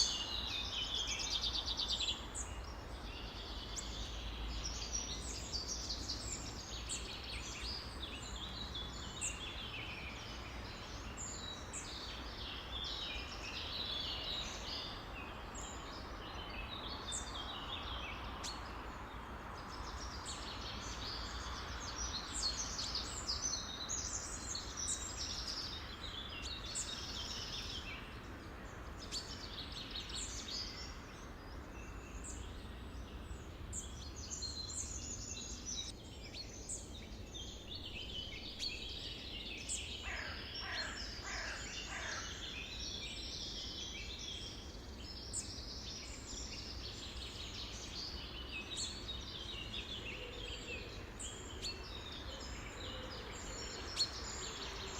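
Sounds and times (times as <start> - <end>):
songbird chorus: 0.0 - 54.9.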